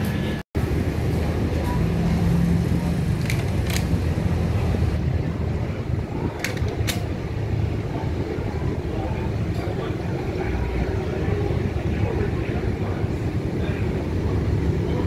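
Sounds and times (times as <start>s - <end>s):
road traffic rumble: 0.0s - 15.0s
faint distant voices: 1.1s - 15.0s.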